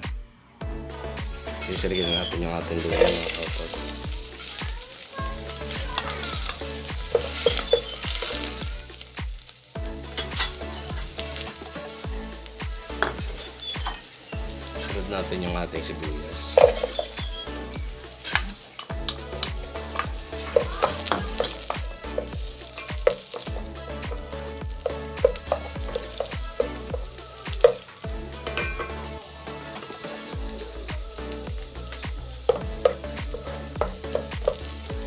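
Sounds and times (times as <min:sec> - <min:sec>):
vegetables sizzling in oil: 0:01.8 - 0:35.0.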